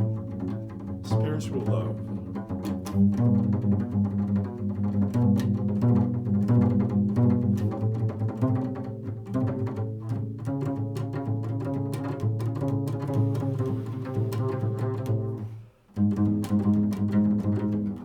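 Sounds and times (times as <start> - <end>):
improvised instrumental music: 0.0 - 18.0.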